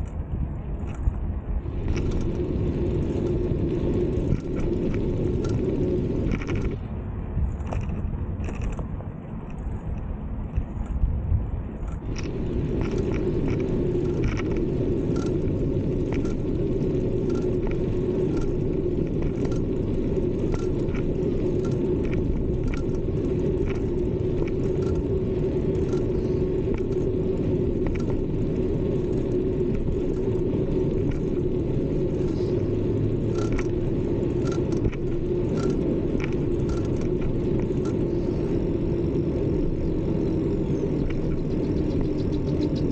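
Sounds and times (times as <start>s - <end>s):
bicycle rolling on pavement: 0.0s - 42.9s.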